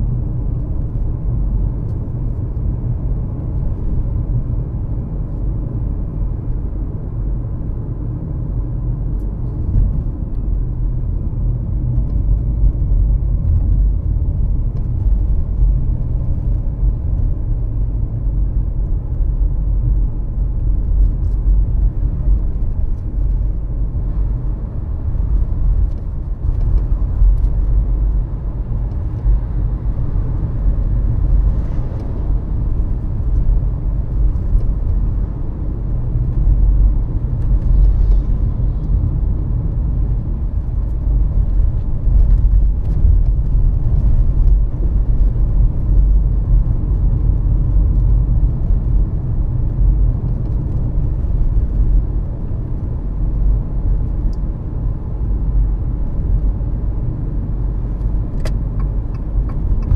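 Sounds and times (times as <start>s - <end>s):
vehicle driving rumble: 0.0s - 59.9s.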